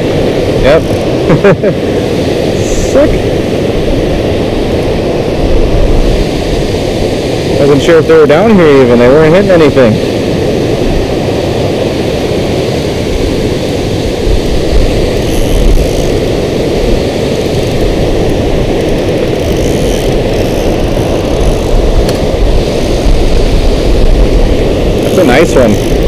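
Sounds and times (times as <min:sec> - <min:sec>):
water rushing over a dam: 0:00.0 - 0:26.0.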